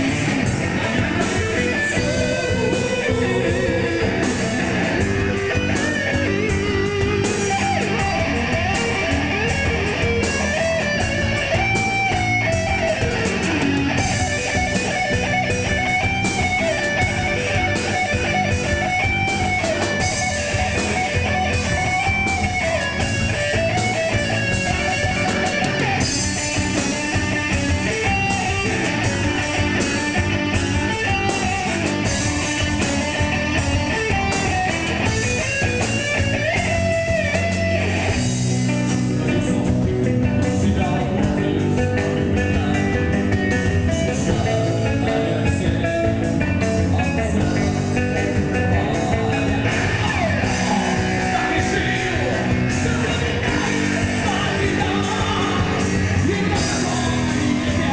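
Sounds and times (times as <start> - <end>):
electric guitar solo: 0.0 - 57.9
metal band playing: 0.0 - 57.9.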